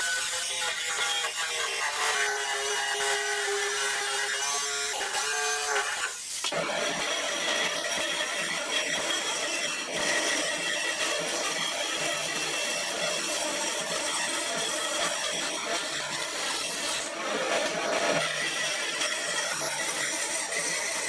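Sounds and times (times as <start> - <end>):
power tool running: 0.0 - 21.0.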